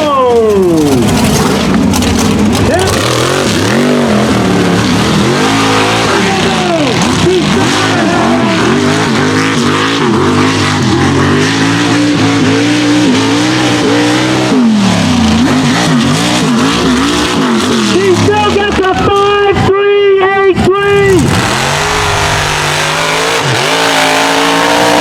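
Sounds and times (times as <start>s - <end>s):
truck engine revving hard: 0.0s - 19.1s, 20.6s - 25.0s.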